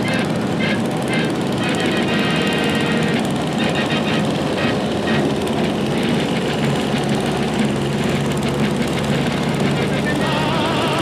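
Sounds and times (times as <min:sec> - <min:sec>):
garden tractor engines running: 0:00.0 - 0:11.0.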